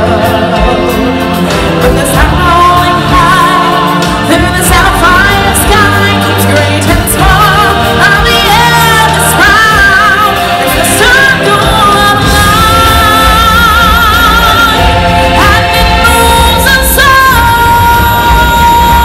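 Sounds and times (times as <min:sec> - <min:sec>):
band playing: 0:00.0 - 0:19.0
singers with vibrato: 0:00.0 - 0:19.0.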